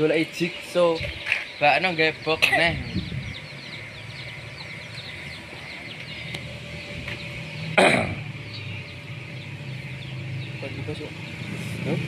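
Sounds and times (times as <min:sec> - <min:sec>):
loud bird call: 0:00.0 - 0:12.0
small birds chirping: 0:00.0 - 0:12.0
steady low hum: 0:00.0 - 0:12.0.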